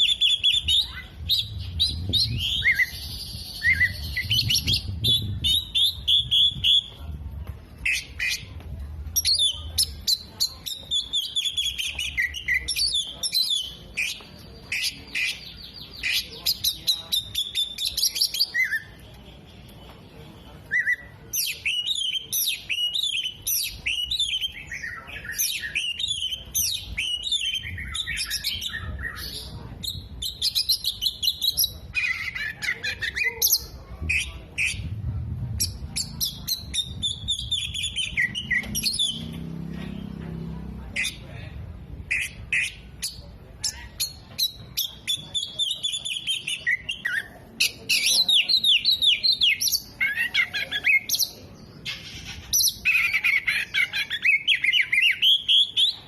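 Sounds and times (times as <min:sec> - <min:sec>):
bird singing fast chirps and trills: 0:00.0 - 0:07.0, 0:07.8 - 0:19.8, 0:20.5 - 0:56.0.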